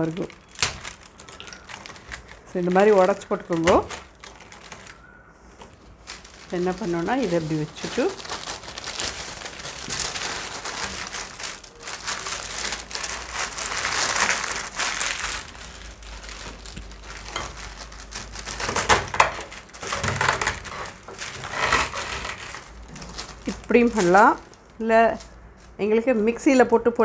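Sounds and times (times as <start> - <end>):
brittle crunching and crackling: 0.0 - 27.0.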